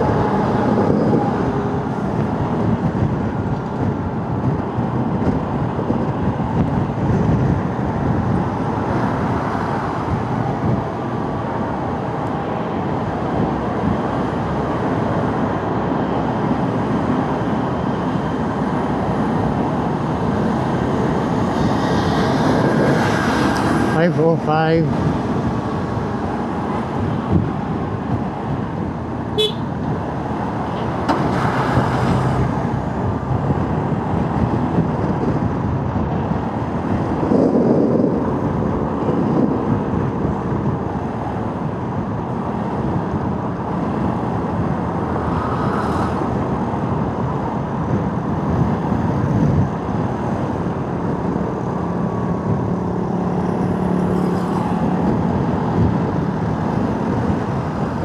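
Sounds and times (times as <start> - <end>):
other vehicles running: 0.0 - 58.0
wind noise: 0.0 - 58.0.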